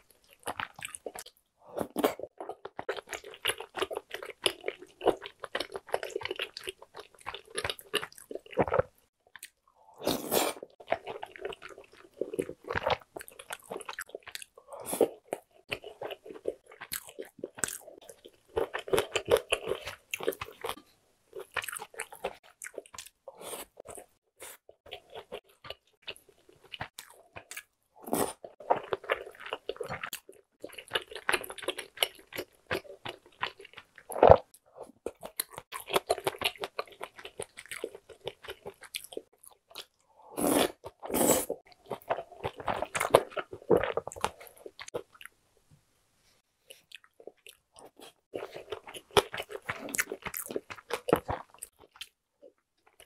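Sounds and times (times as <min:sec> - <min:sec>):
chewing and biting food: 0:00.0 - 0:45.3, 0:46.7 - 0:53.0.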